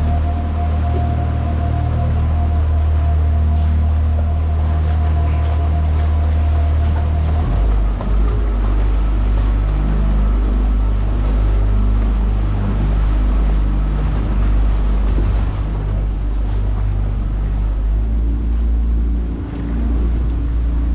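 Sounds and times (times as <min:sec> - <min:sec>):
boat engine humming: 0:00.0 - 0:20.9
water rushing: 0:00.0 - 0:20.9
wind: 0:00.0 - 0:20.9.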